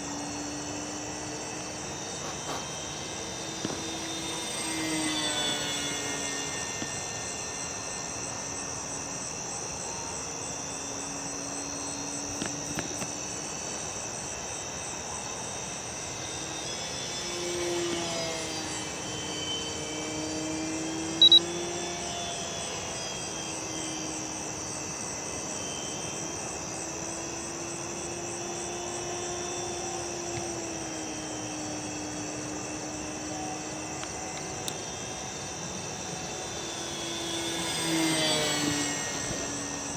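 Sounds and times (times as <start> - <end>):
crickets chirping: 0.0 - 39.9
distant model plane motor hum: 0.0 - 39.9.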